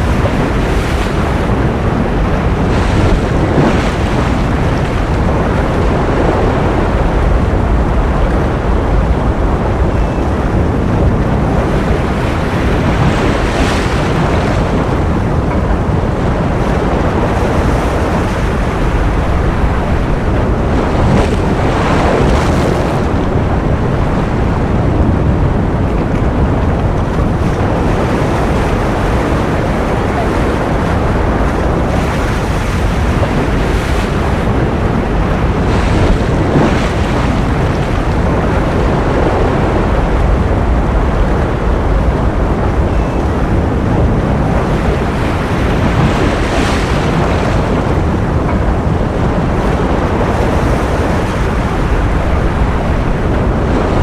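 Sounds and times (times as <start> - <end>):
ocean surf rushing: 0.0 - 54.0.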